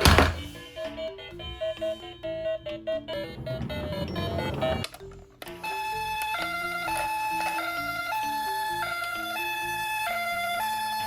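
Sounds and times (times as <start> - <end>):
simple background music tune: 0.0 - 11.0.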